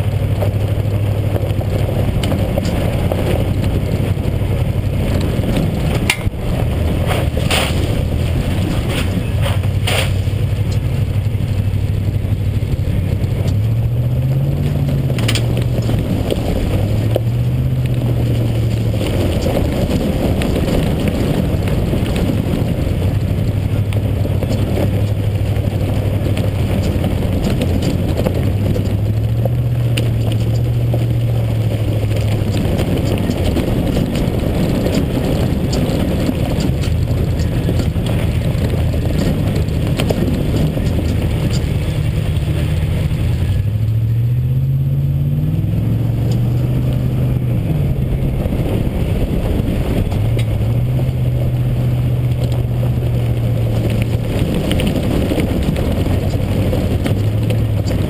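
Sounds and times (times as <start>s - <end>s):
truck engine drone: 0.0s - 58.0s
tyres crunching on gravel: 0.0s - 58.0s.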